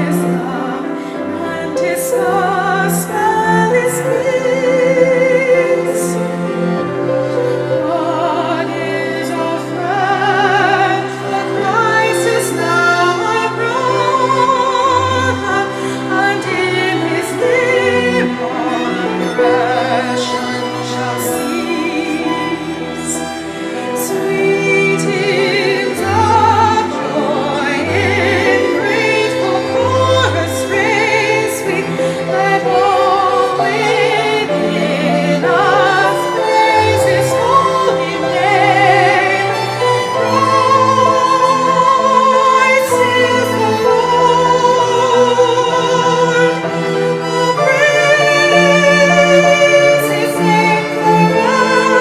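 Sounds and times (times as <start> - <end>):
classical accompaniment: 0.0 - 52.0.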